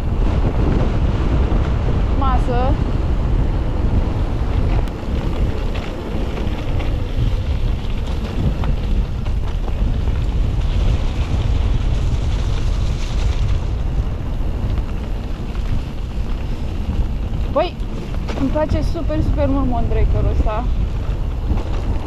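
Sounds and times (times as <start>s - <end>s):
bike rolling low rumble: 0.0s - 22.0s
wind buffeting microphone: 0.0s - 22.0s.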